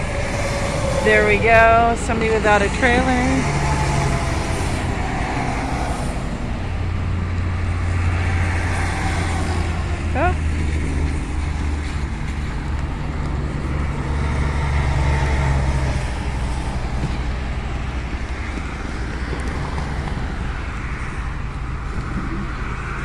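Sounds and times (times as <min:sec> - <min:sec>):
traffic passing on wet road: 0:00.0 - 0:23.0.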